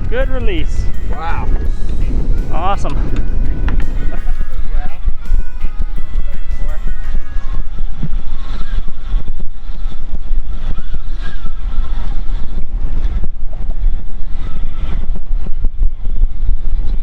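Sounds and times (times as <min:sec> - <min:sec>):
boat and water noise: 0:00.0 - 0:17.0
strong wind buffeting microphone: 0:00.0 - 0:17.0.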